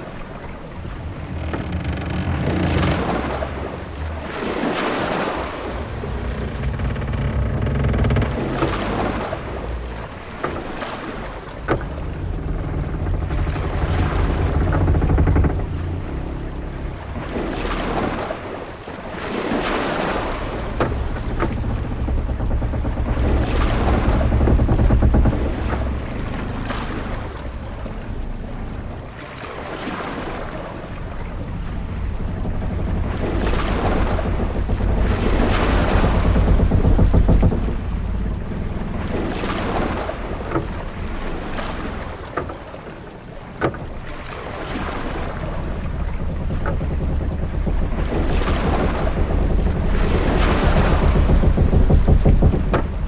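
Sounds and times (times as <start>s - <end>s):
deep rumble: 0.0s - 53.0s
waves washing: 0.0s - 53.0s
wind: 0.0s - 53.0s.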